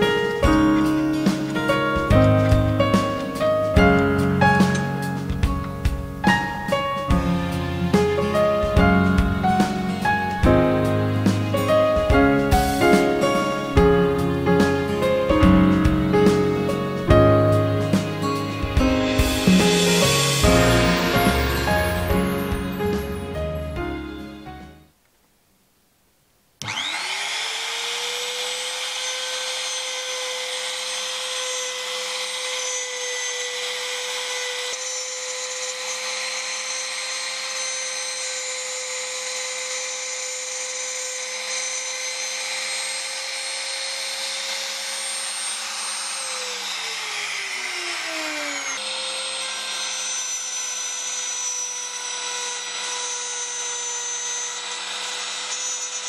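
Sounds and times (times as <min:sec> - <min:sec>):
trim router whining: 0:00.0 - 0:24.8, 0:26.6 - 0:56.0.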